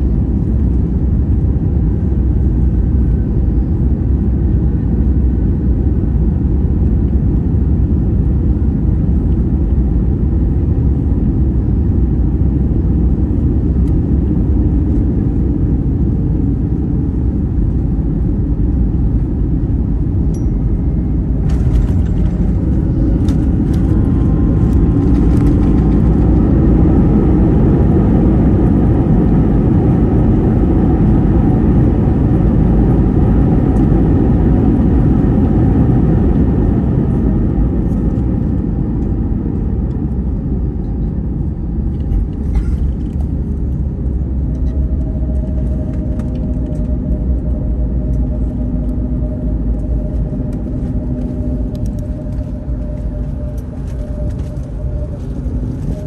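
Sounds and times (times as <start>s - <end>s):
airflow over wing: 0.0s - 56.0s
jet engine cabin rumble: 0.0s - 56.0s.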